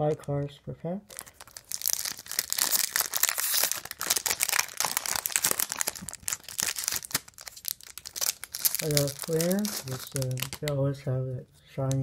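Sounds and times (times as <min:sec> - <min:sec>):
plastic wrapper crinkling: 0:01.1 - 0:10.8.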